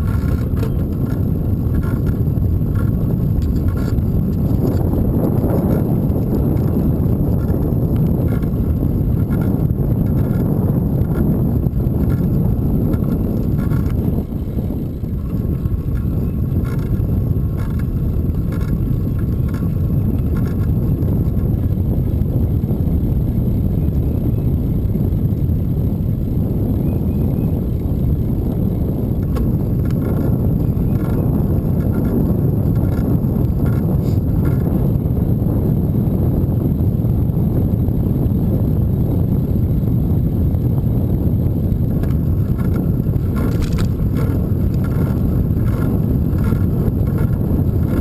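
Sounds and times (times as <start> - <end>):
road noise: 0.0 - 48.0
wind buffeting microphone: 0.0 - 48.0.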